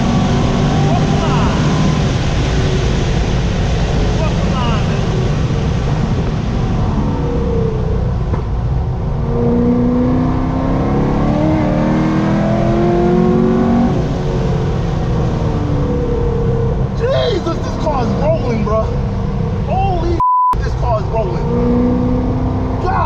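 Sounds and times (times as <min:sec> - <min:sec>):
sports car engine accelerating: 0:00.0 - 0:23.0.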